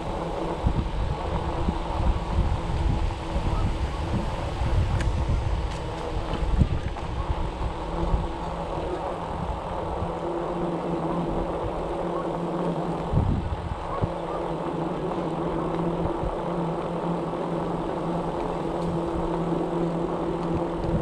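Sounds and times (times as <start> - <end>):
electric bike motor humming: 0.0 - 21.0
road and wind noise: 0.0 - 21.0.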